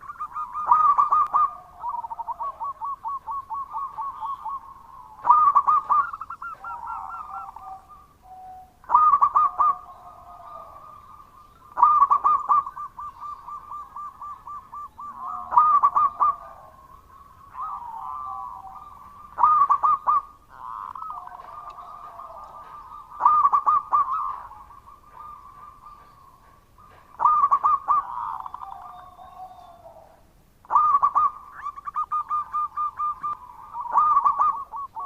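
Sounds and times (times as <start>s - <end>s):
doves cooing: 0.0s - 35.0s.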